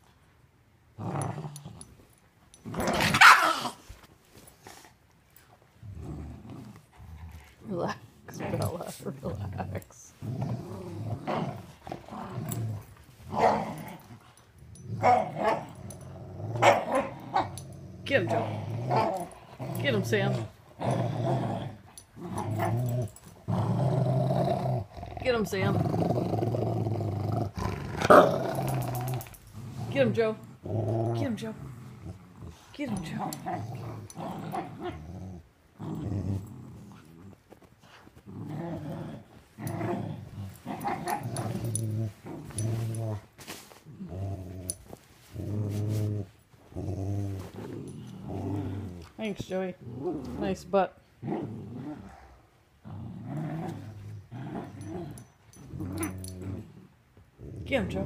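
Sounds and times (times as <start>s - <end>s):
dogs growling: 1.0s - 4.0s, 5.8s - 58.0s.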